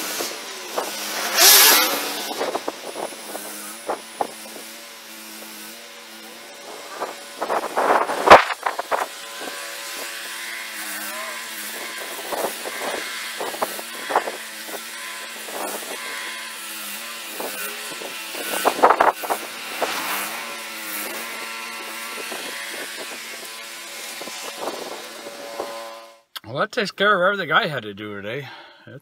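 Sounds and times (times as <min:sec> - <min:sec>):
snowblower engine running: 0:00.0 - 0:26.2.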